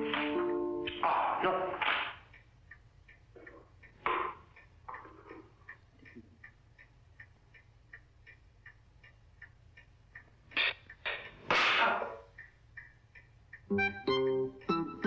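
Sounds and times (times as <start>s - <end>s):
clock ticking faintly: 0.0s - 15.0s.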